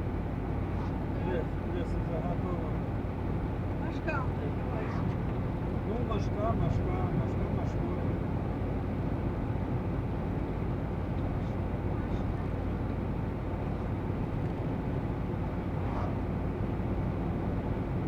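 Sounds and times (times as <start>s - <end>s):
van engine and road noise: 0.0s - 18.0s.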